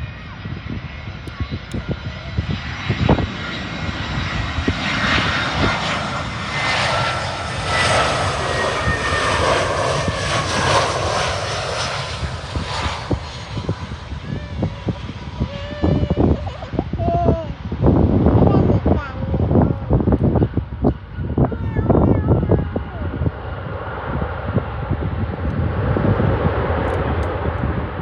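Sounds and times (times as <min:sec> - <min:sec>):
jet airliner passing by: 0:00.0 - 0:28.0.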